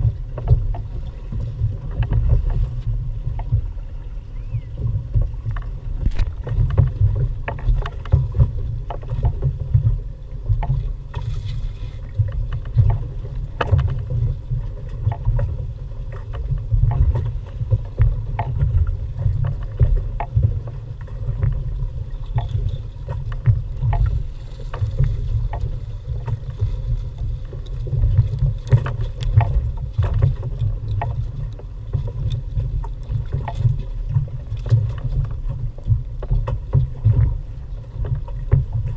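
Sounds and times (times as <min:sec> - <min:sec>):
knocks and splashes: 0:00.0 - 0:03.8, 0:04.7 - 0:38.9
water slapping against boat hull: 0:00.0 - 0:38.9
wind on microphone: 0:00.0 - 0:38.9.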